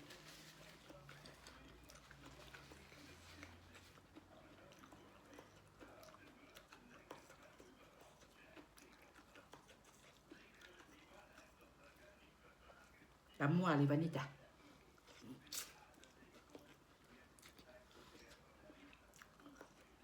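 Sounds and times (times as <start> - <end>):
person chewing food: 0.0 - 13.3, 14.5 - 20.0.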